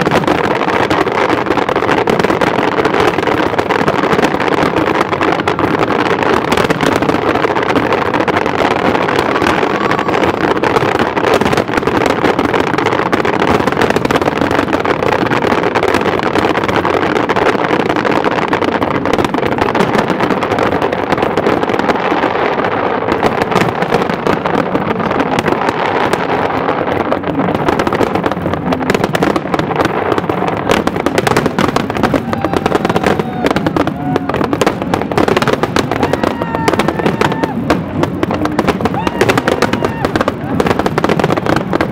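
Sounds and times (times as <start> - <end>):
fireworks crackling and popping: 0.0 - 41.9.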